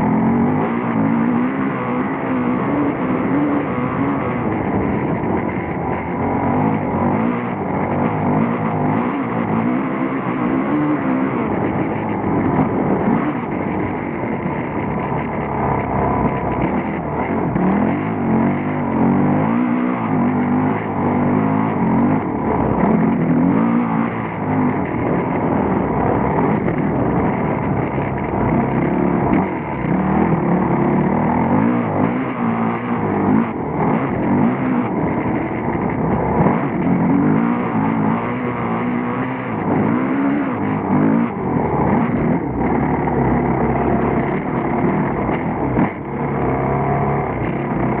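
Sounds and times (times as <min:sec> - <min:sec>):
motocross bike engine revving: 0:00.0 - 0:48.0.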